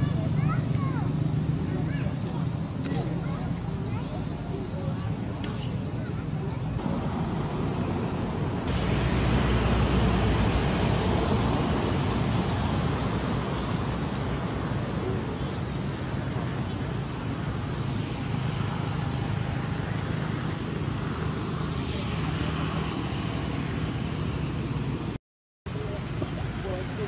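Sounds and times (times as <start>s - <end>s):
outdoor rushing noise with rumble: 0.0s - 27.0s.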